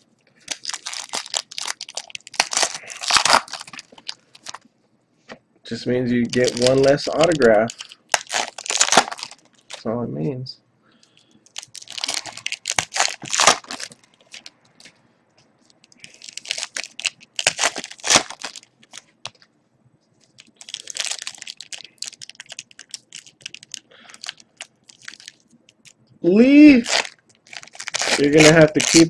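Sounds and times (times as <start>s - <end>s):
foil wrappers crinkling: 0.4s - 4.6s, 6.2s - 9.8s, 11.2s - 14.9s, 15.7s - 19.4s, 20.2s - 25.9s, 26.7s - 29.0s.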